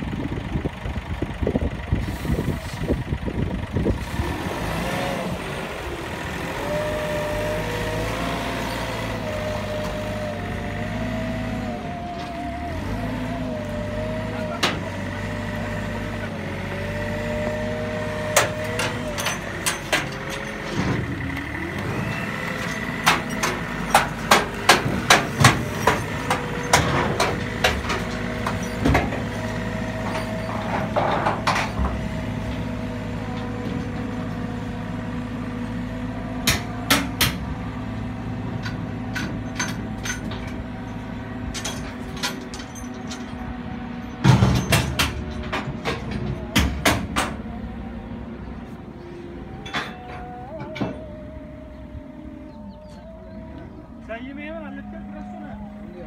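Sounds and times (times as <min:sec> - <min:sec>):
telehandler engine running: 0:00.0 - 0:56.0.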